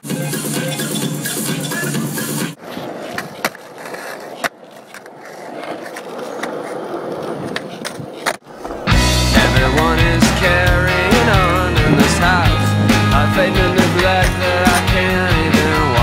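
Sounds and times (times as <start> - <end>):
skateboard clacks: 0.2 - 16.0
skateboard wheels rolling on asphalt: 0.2 - 16.0.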